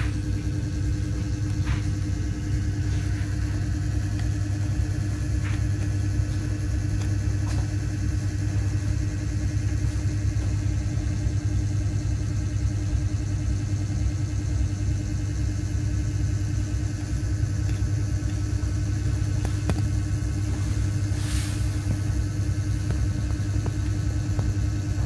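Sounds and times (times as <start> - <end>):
ship engine drone: 0.0 - 25.0.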